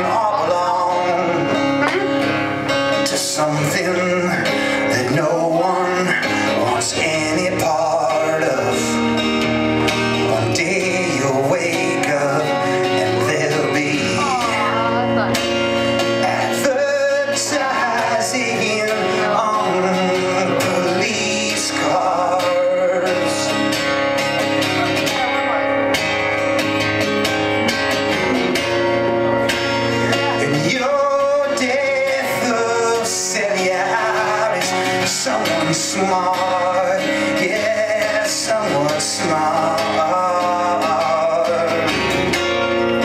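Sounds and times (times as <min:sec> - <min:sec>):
man singing: 0:00.0 - 0:43.0
rock guitar playing: 0:00.0 - 0:43.0.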